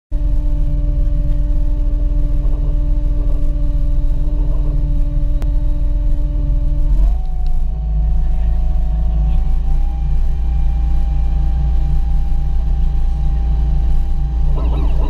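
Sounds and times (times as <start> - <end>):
boat engine whining hum: 0.1 - 15.0.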